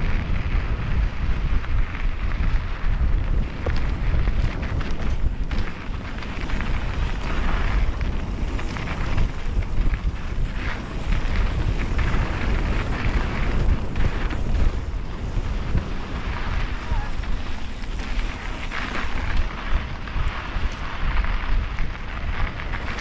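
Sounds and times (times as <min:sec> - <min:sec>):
wind noise on microphone: 0:00.0 - 0:23.0
tyres rolling over dirt: 0:01.9 - 0:23.0.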